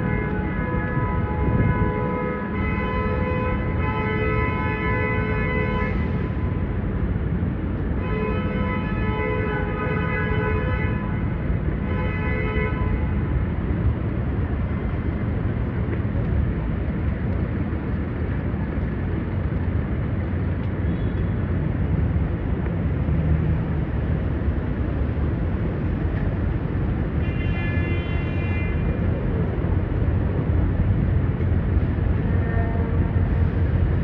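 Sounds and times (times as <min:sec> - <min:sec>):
low rumble of city noise: 0:00.0 - 0:34.0.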